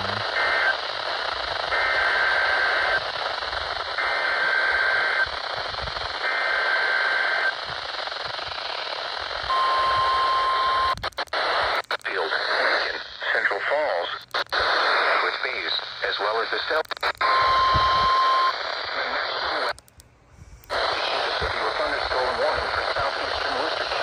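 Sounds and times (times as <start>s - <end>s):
radio hiss: 0.0s - 19.8s, 20.4s - 24.0s
crackling: 0.0s - 24.0s.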